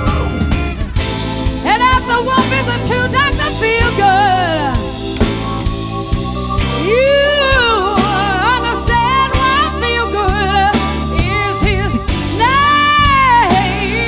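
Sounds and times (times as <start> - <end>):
live band playing soul ballad: 0.0 - 14.0
sliding lead melody with vibrato: 0.0 - 14.0.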